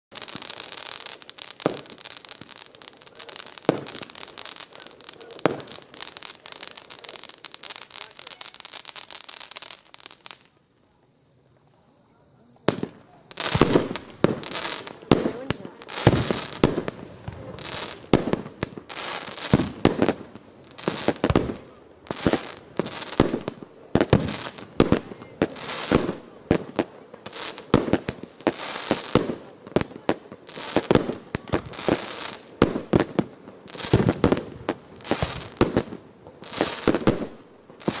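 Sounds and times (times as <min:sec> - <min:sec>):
firework bangs with crackle: 0:00.1 - 0:10.6, 0:12.6 - 0:38.0.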